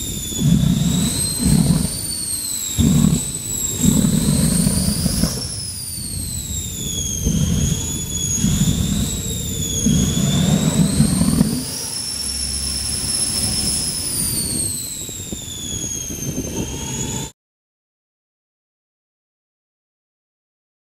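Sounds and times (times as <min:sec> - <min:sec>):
low rumble of exhaust flames: 0:00.0 - 0:17.3
gas turbine engine whine: 0:00.0 - 0:17.4.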